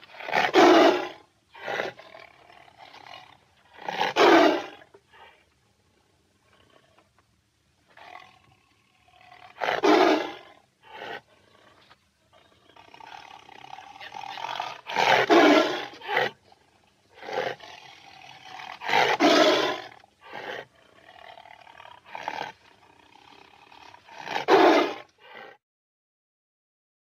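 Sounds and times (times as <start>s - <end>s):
tiger roaring: 0.0s - 5.4s, 7.9s - 25.6s.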